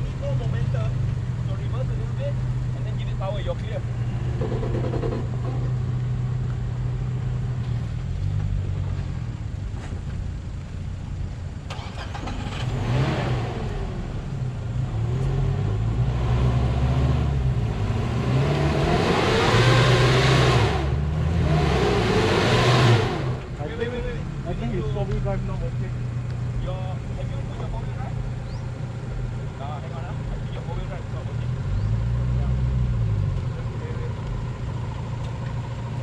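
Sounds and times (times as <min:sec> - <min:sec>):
engine working under load: 0:00.0 - 0:36.0.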